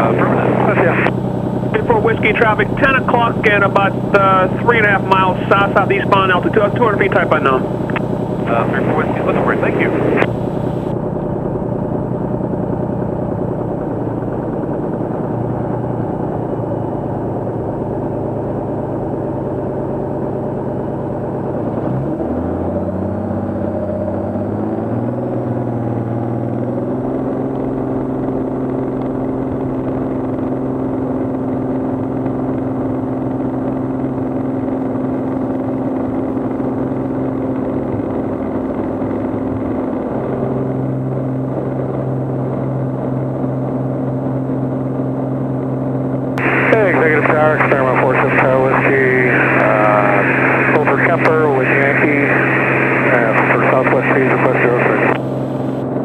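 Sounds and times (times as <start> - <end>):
propeller plane engine running: 0.0 - 56.0.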